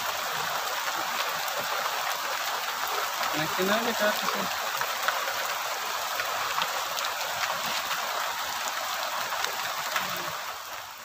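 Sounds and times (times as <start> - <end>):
rain falling: 0.0 - 11.0
raindrops pattering: 0.0 - 11.0.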